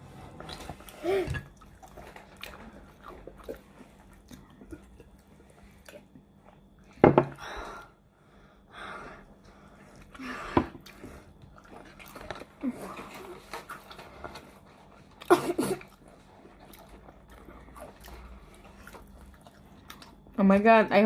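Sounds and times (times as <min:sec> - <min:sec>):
people chewing crispy chicken: 0:00.3 - 0:06.9, 0:09.3 - 0:20.4.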